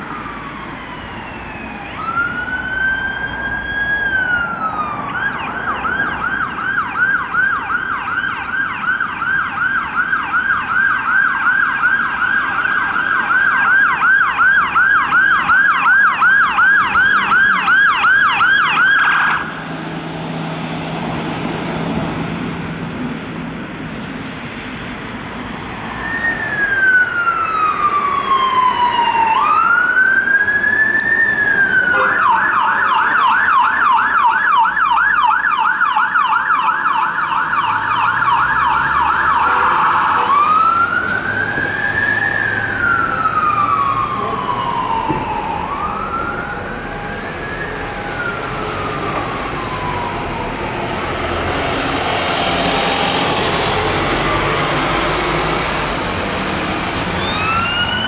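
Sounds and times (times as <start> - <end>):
siren yelping: 0.0 - 19.9, 25.9 - 56.1, 56.8 - 58.0
siren wailing: 0.0 - 20.4, 25.8 - 58.0.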